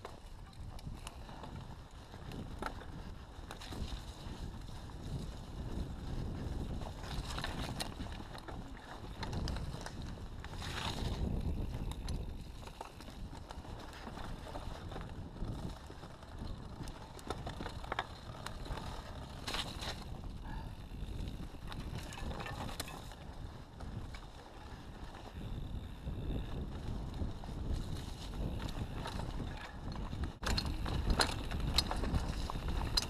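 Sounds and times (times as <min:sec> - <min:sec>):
bike rattling: 0:00.0 - 0:33.0
bike tyres rolling on dirt: 0:00.0 - 0:33.0
sharp bike clatters: 0:00.0 - 0:33.0
wind on microphone: 0:00.0 - 0:33.0.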